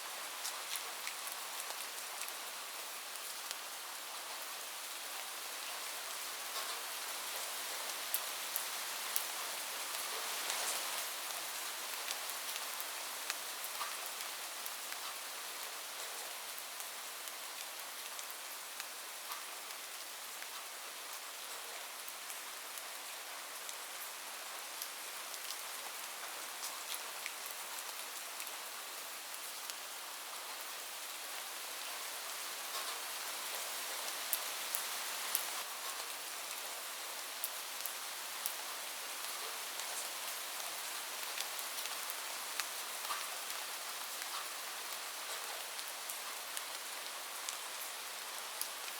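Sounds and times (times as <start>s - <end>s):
rain on a roof: 0.0s - 48.9s.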